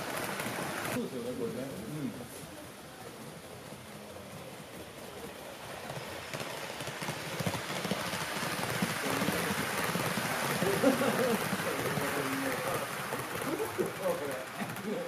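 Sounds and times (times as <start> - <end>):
model train wheels clicking on rails: 0.0 - 15.0.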